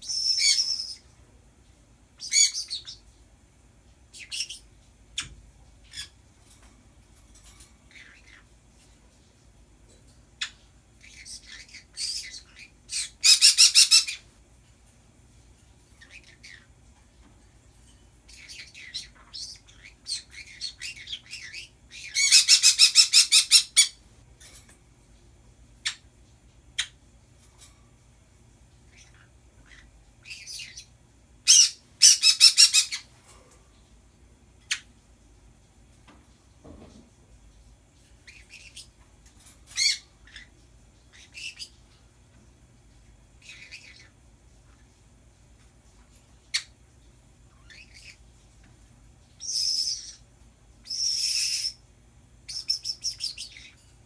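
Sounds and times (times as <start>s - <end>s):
pet birds chattering: 0.0s - 3.2s, 3.8s - 33.9s, 34.5s - 35.1s, 37.6s - 54.0s.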